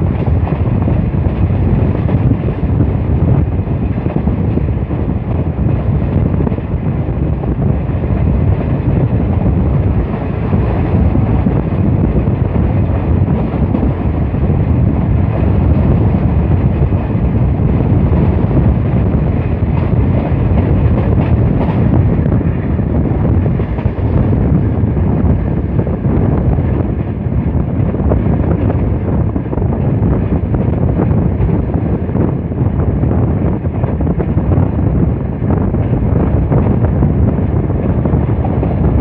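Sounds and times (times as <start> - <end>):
train rumbling on track: 0.0 - 39.0
wind buffeting microphone: 0.0 - 39.0.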